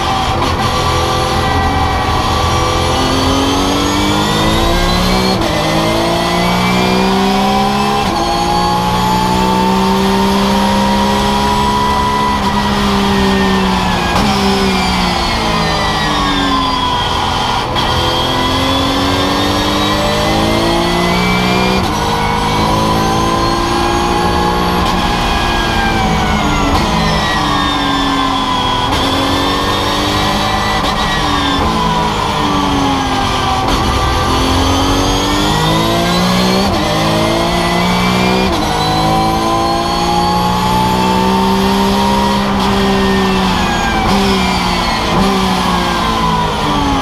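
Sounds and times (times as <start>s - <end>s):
race car engine revving: 0.0s - 47.0s.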